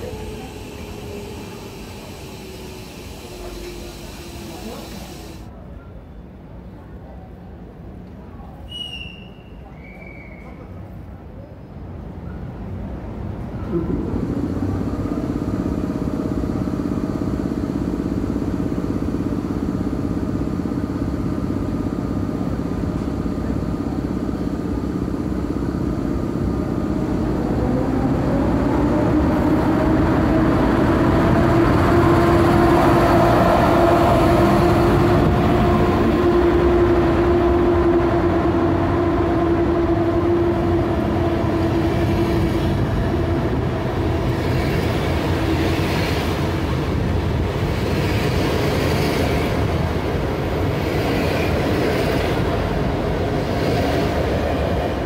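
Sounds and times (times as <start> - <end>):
train mechanical hum: 0.0 - 55.0.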